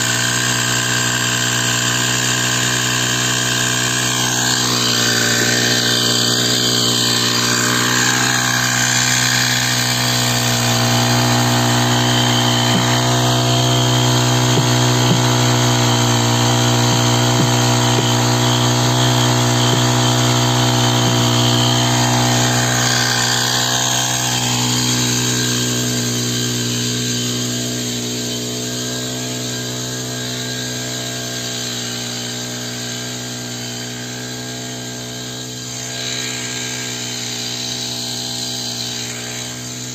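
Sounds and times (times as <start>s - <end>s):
small engine sprayer running: 0.0s - 39.9s.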